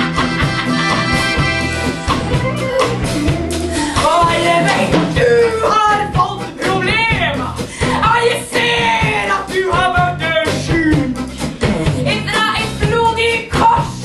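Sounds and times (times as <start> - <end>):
song with steady beat: 0.0 - 13.7
woman singing: 2.4 - 14.0.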